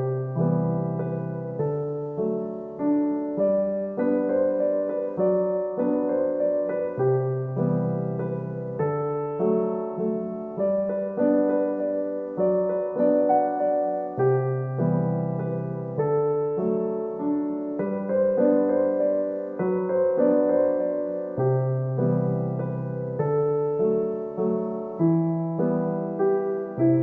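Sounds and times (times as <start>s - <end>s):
gentle solo piano: 0.0s - 27.0s.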